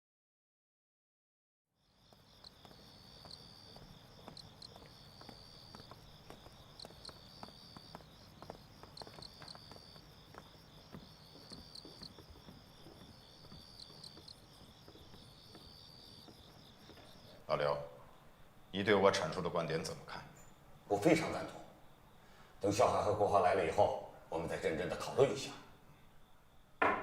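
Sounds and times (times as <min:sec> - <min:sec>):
crickets chirping: 0:01.8 - 0:27.0
faint steady hiss: 0:01.8 - 0:27.0.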